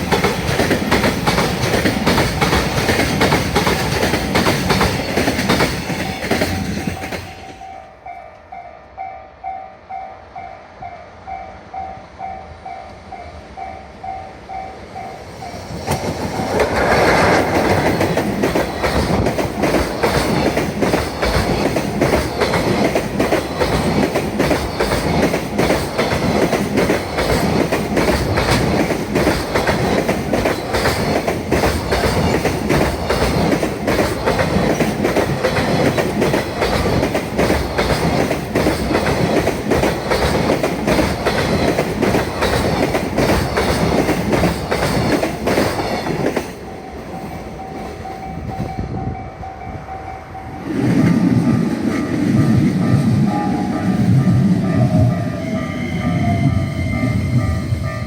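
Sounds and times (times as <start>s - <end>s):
train wheels clattering: 0.0s - 7.7s, 14.5s - 48.8s, 50.5s - 58.0s
freight train rushing past: 0.0s - 58.0s.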